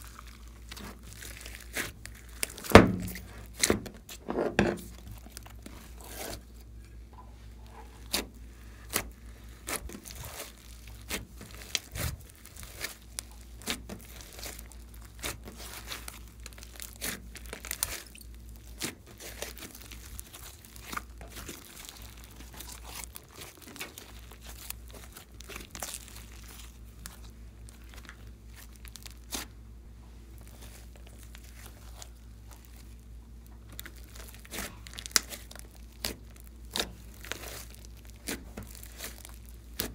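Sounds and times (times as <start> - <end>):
slime squished by hand: 0.0 - 4.2, 7.8 - 29.6, 30.3 - 39.9.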